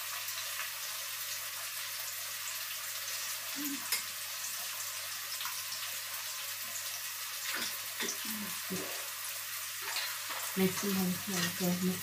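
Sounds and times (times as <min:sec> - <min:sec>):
onion and garlic sizzling in a wok: 0:00.0 - 0:12.0.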